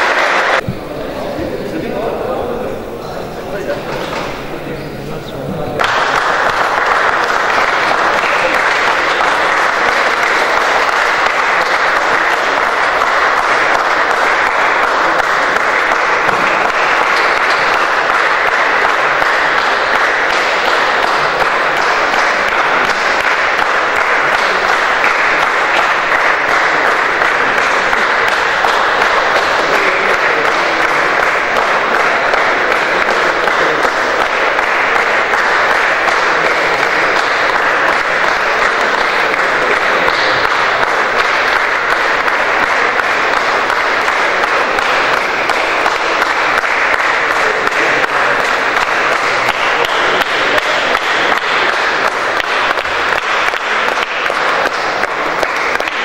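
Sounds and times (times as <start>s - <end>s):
crowd applauding: 0.0s - 56.0s.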